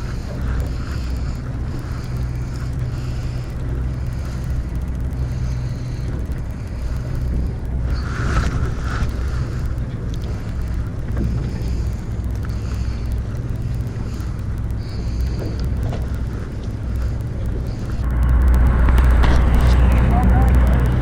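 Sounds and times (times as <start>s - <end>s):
boat engine drone: 0.0s - 21.0s
sea water noise: 0.0s - 21.0s
wind buffeting microphone: 0.0s - 21.0s.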